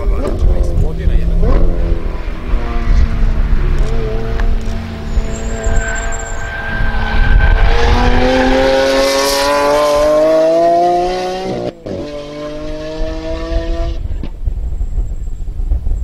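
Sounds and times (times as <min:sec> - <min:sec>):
sports car engine accelerating: 0:00.0 - 0:14.1.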